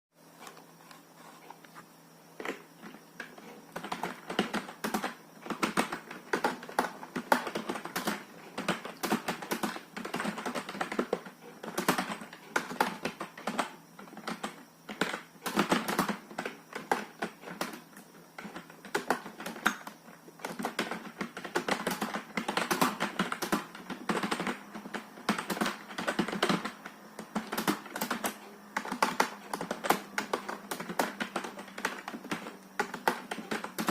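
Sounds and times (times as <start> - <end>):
keyboard typing: 2.4 - 33.9.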